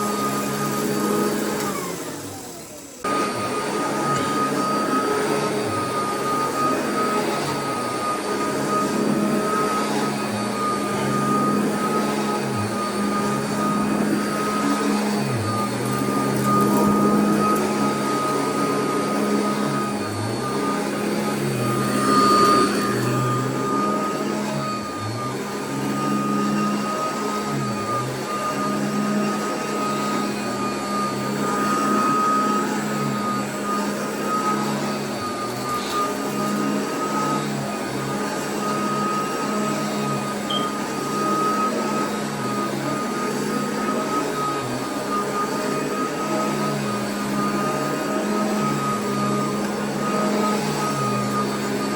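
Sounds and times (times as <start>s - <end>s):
vacuum cleaner running on carpet: 0.0s - 51.9s.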